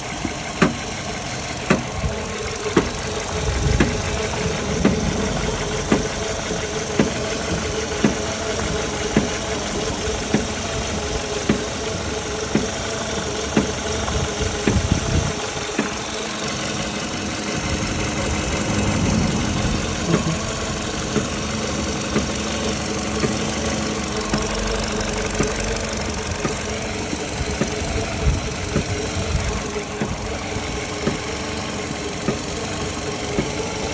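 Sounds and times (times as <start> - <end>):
car engine hum: 0.0 - 33.9.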